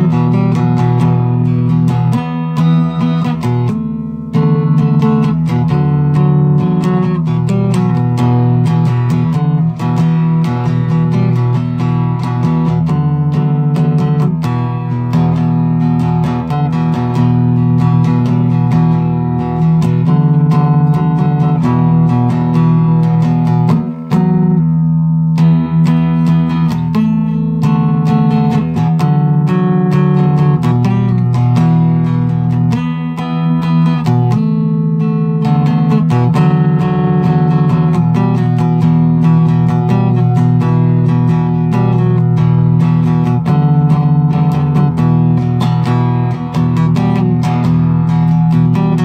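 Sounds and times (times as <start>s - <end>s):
acoustic guitar chords: 0.0s - 49.0s.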